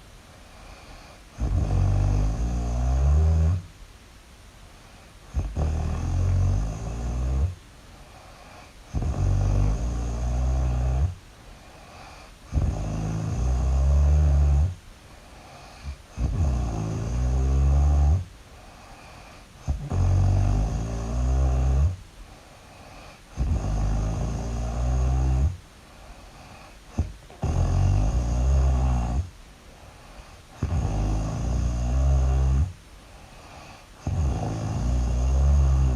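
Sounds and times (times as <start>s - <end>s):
quiet breaths: 0.0s - 35.9s
loud snoring: 0.6s - 3.7s, 5.3s - 14.8s, 15.4s - 22.0s, 22.8s - 25.6s, 26.3s - 29.3s, 30.0s - 35.9s.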